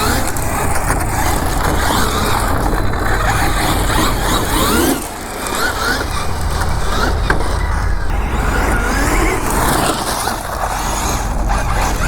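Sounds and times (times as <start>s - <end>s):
rc car electric motor whining: 0.0s - 12.0s.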